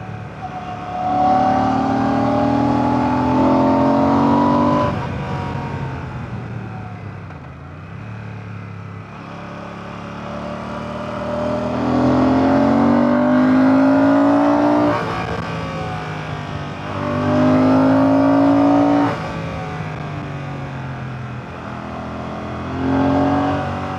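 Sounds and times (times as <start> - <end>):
motorcycle engine revving: 0.4 - 5.9, 9.2 - 23.9.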